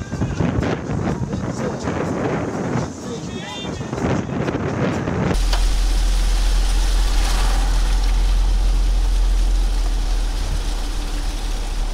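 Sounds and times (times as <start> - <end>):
gusting wind buffeting microphone: 0.0 - 11.9.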